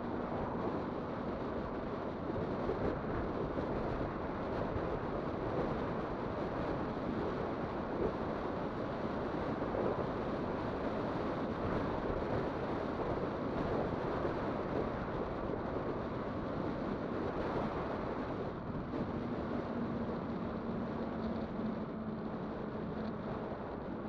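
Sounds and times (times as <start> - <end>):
rolling road noise: 0.0 - 24.0
wind rushing on microphone: 0.0 - 24.0.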